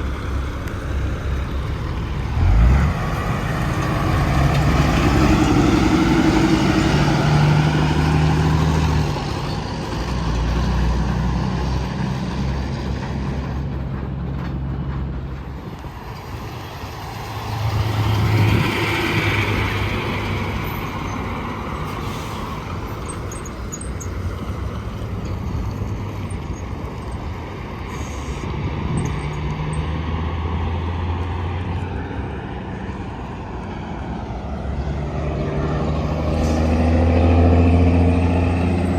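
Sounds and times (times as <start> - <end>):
trucks passing on highway: 0.0 - 38.9.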